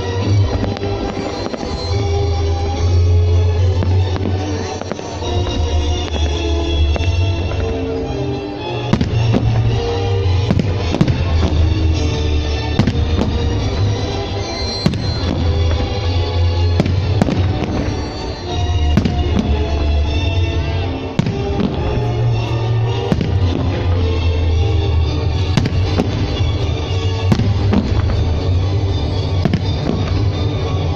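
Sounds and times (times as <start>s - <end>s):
firework bangs: 0.0s - 30.9s.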